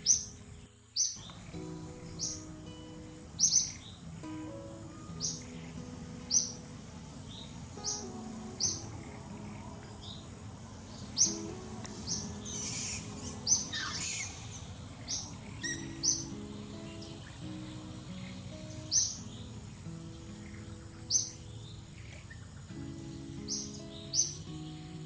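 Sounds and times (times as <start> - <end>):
birds chirping: 0.0 - 25.0
quiet background music: 0.0 - 25.0.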